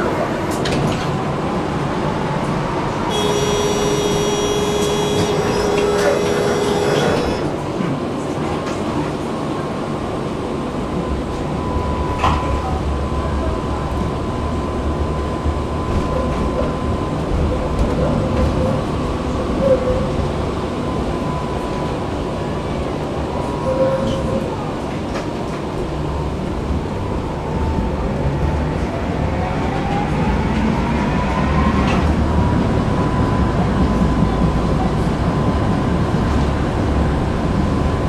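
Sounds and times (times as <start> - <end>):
tram motor whine: 0.0 - 38.0
tram rumbling on rails: 0.0 - 38.0.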